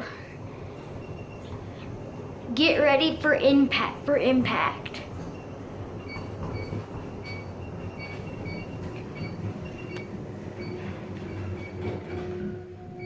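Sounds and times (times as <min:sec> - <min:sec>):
elevator low rumble: 0:00.0 - 0:13.0.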